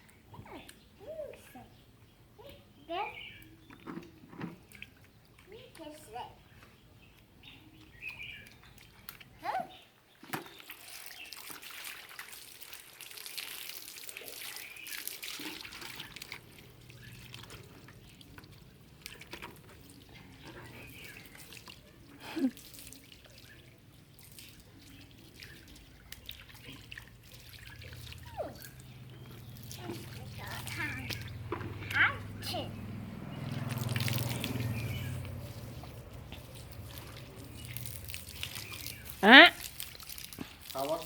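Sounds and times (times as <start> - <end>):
water splashing and dripping: 2.4 - 41.0
small clicks and splats: 3.4 - 9.5, 10.1 - 41.0.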